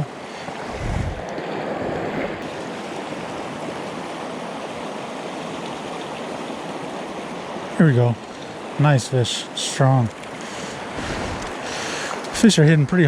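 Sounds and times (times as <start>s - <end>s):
river rushing over rocks: 0.0s - 12.7s.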